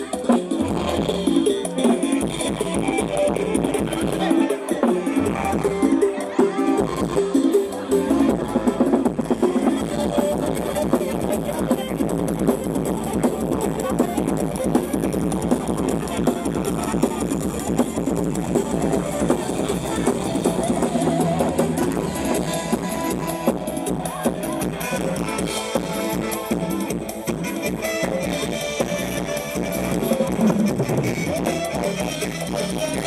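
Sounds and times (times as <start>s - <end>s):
amplified band music over loudspeakers: 0.0s - 33.0s.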